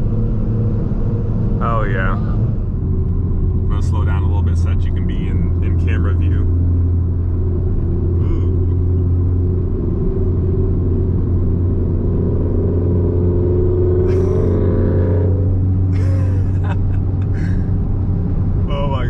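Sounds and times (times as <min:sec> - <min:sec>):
car engine drone and road noise: 0:00.0 - 0:19.0.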